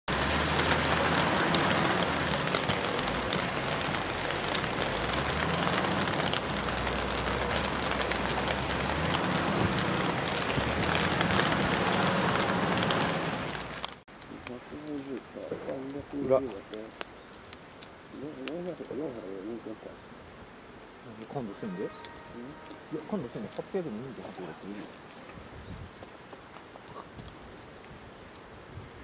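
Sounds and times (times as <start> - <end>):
heavy rain falling: 0.1 - 29.0.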